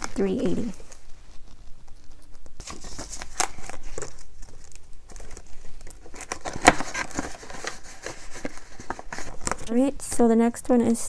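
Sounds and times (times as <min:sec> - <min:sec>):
paper bills rustling: 0:00.0 - 0:09.7.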